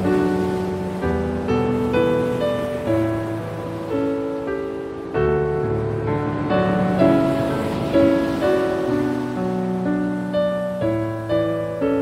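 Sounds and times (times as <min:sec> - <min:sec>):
gentle piano music: 0:00.0 - 0:12.0
ocean waves: 0:00.0 - 0:12.0.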